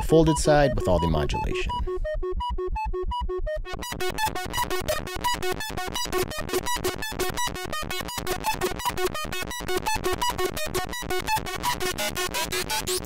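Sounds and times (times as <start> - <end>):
synthesizer stepped sequence: 0.0 - 13.0.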